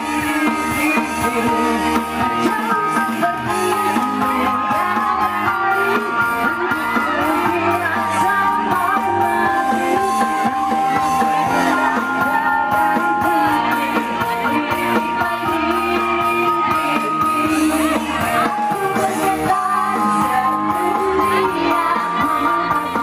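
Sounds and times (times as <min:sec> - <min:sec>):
amplified live band music: 0:00.0 - 0:23.0.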